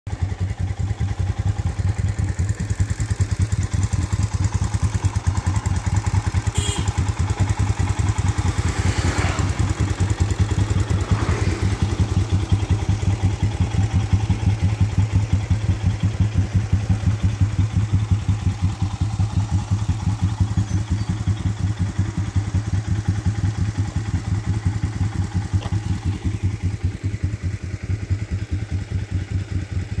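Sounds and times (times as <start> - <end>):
motorcycle engine running: 0.1 - 30.0.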